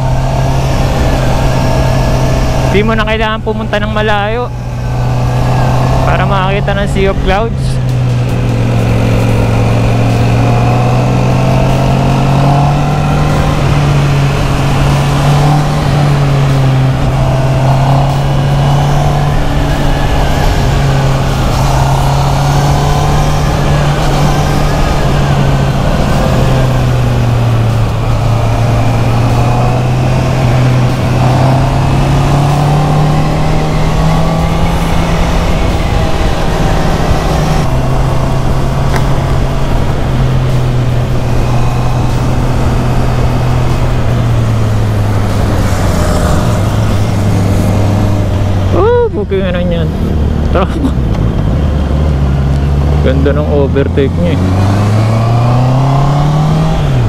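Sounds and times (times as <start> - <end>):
motorcycle engine cruising: 0.0 - 57.0
wind buffeting microphone: 4.5 - 53.0.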